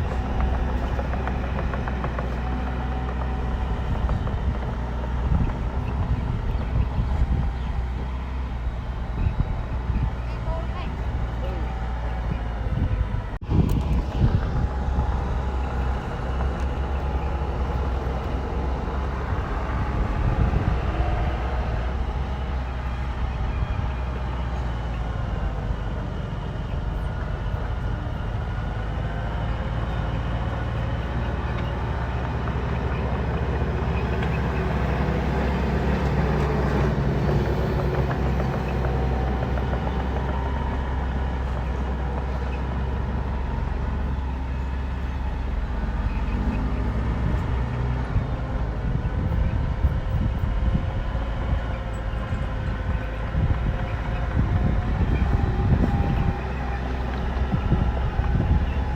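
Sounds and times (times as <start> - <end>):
bulldozer diesel engine rumbling: 0.0 - 58.9.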